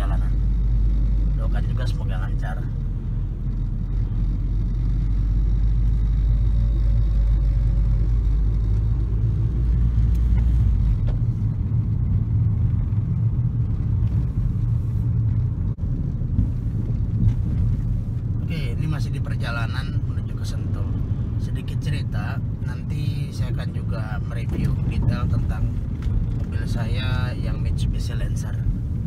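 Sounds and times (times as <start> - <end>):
road and engine rumble: 0.0 - 29.0.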